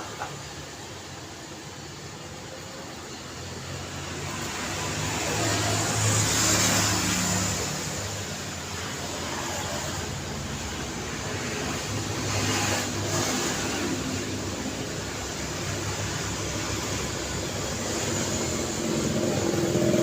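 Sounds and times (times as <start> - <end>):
steady road traffic: 0.0 - 20.0
car passing: 3.6 - 20.0.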